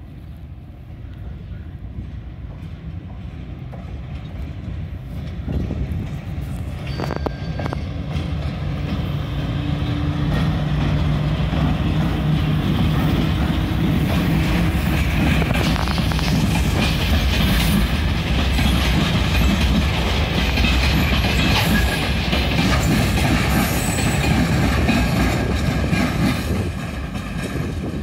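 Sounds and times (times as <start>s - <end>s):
electric locomotive drone: 0.0s - 28.0s
train wheels rumbling on rails: 0.0s - 28.0s.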